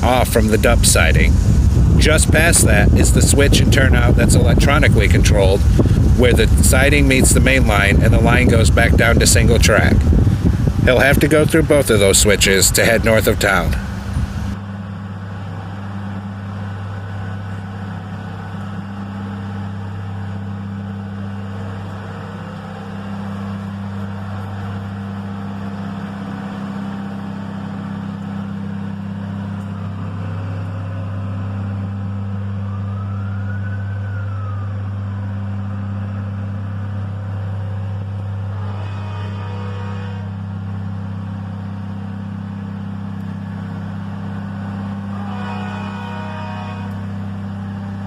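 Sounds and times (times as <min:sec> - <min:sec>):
diesel train engine drone: 0:00.0 - 0:48.0.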